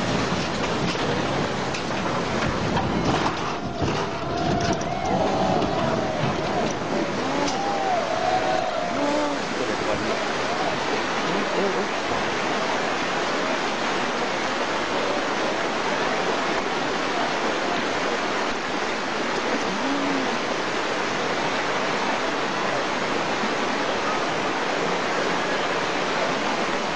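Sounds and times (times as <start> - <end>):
river rushing: 0.0 - 26.9.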